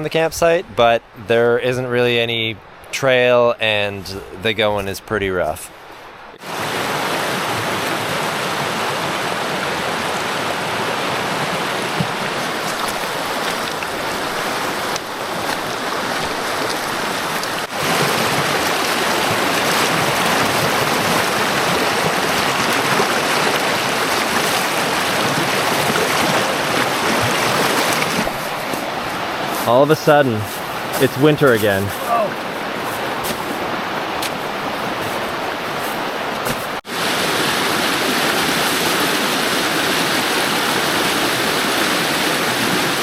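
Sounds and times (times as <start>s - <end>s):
brook water rushing over rocks: 5.8s - 43.0s.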